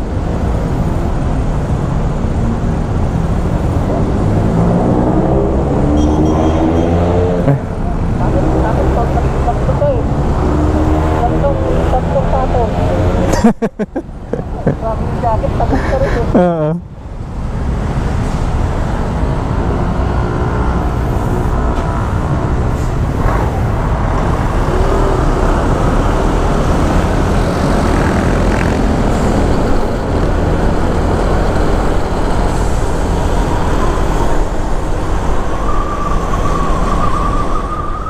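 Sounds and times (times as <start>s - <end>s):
road noise: 0.0s - 38.0s.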